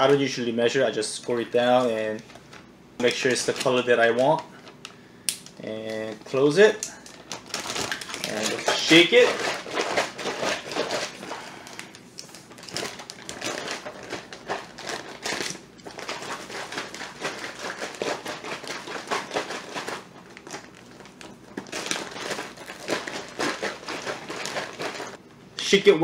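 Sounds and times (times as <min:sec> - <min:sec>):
plastic bag crinkling while shaken: 0:01.5 - 0:04.8, 0:05.6 - 0:11.8, 0:12.4 - 0:25.2.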